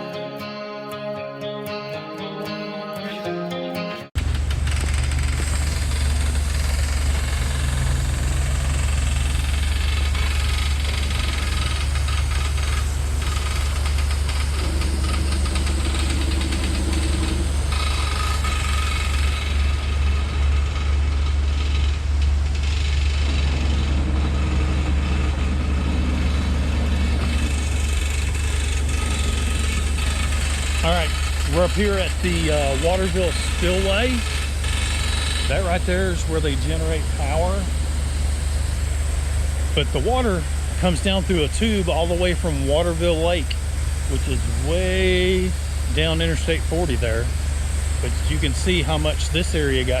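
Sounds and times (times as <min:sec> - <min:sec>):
motorcycle engine running: 0:04.2 - 0:50.0.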